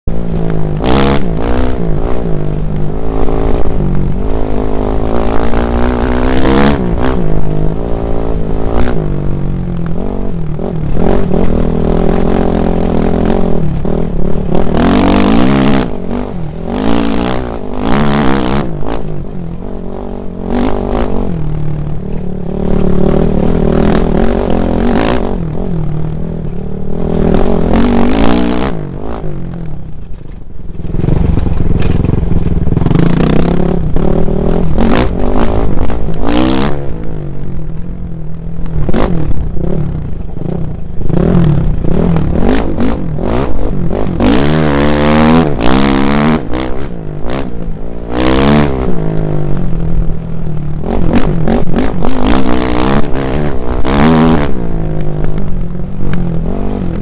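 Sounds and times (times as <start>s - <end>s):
wind and ground rumble: 0.0s - 57.0s
dirt bike engine revving: 0.1s - 29.8s, 30.7s - 37.5s, 38.6s - 57.0s.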